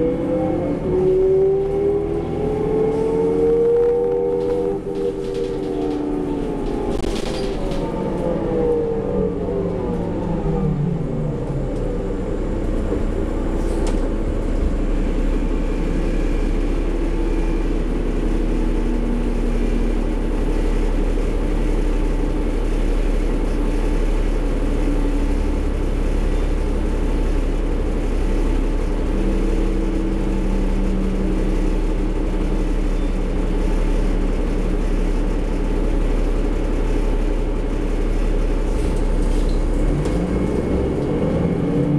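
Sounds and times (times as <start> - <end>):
bus diesel engine drone: 0.0 - 41.9
road noise: 0.0 - 41.9.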